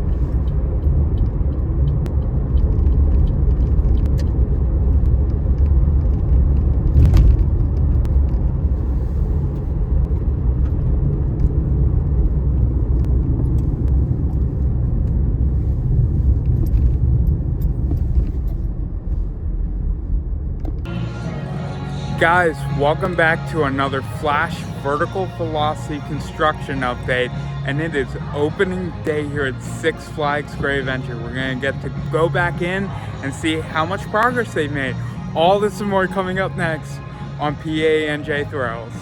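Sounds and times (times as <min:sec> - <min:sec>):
car rumbling on the move: 0:00.0 - 0:37.6.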